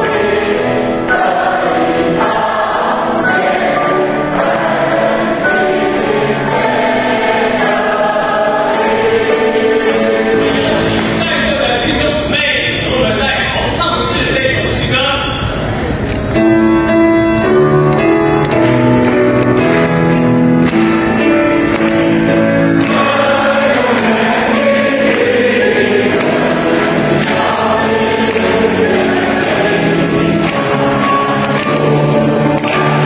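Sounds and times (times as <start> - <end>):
choir and congregation singing a hymn: 0.0 - 12.3, 16.9 - 33.0.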